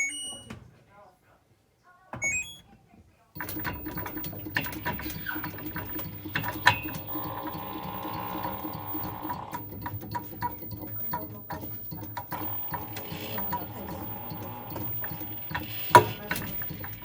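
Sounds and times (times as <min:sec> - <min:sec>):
high motor whine: 0:03.4 - 0:17.0
washing machine clicks and knocks: 0:03.4 - 0:17.0
washing machine motor humming: 0:03.4 - 0:17.0.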